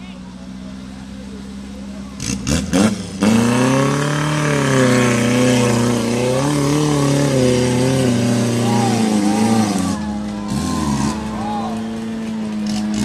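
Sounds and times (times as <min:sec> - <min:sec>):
off-road engine at high revs: 0:00.0 - 0:13.0.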